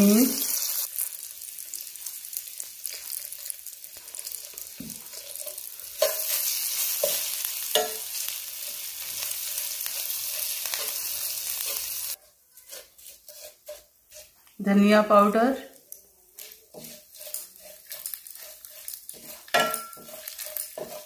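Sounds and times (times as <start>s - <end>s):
spices sizzling in hot oil: 0.0s - 21.0s
spatula scraping a pan: 1.9s - 14.6s, 16.2s - 21.0s.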